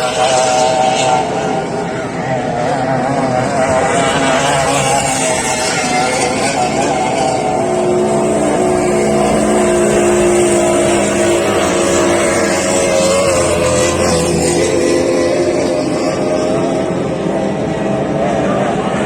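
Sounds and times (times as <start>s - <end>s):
motorboat engine droning: 0.0s - 19.0s.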